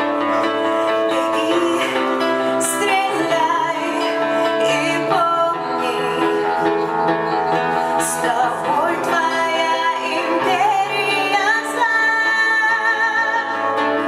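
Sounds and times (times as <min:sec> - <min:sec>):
live band accompaniment: 0:00.0 - 0:14.0
woman singing: 0:00.0 - 0:14.0.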